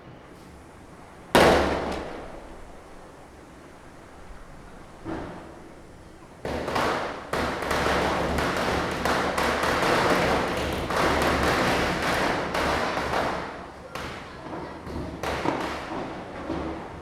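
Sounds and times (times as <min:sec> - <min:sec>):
firecrackers bursting: 0:00.2 - 0:17.0.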